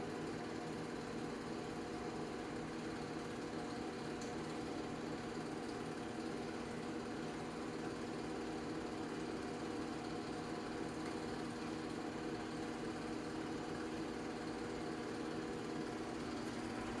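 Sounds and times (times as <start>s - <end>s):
film projector whirring: 0.0s - 17.0s.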